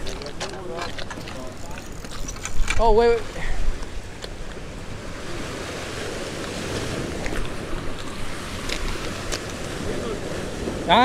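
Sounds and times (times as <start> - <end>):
surf washing against rocks: 0.0 - 11.0
wind rumbling on microphone: 0.0 - 11.0.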